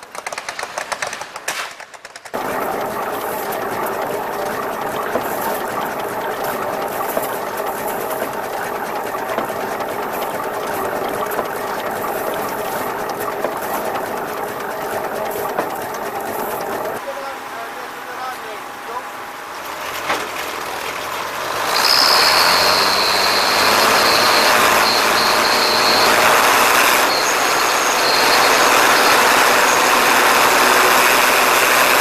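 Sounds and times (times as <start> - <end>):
engine mechanical clatter: 0.0 - 32.0.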